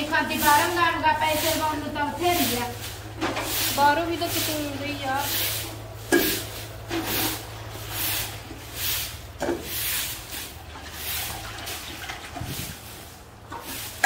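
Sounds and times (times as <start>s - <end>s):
broom sweeping earth: 0.0s - 14.0s.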